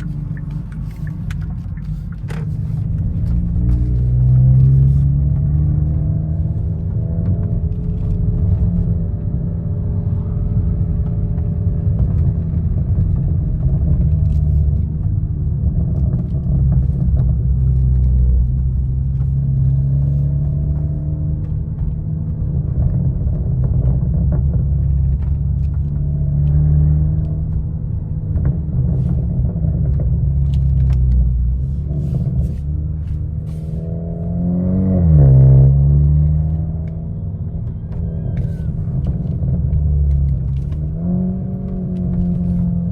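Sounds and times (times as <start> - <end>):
car engine rumble: 0.0 - 42.9.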